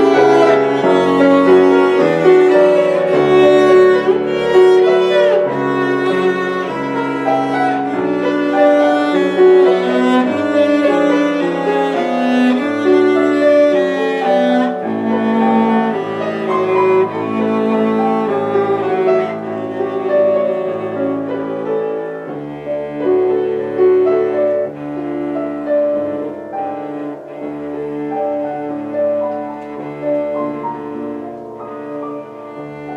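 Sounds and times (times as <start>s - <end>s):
cello melody: 0.0s - 32.9s
piano accompaniment: 0.0s - 32.9s.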